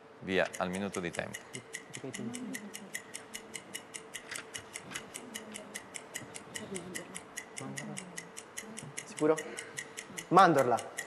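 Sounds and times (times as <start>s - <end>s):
countdown timer ticking: 0.2s - 11.0s.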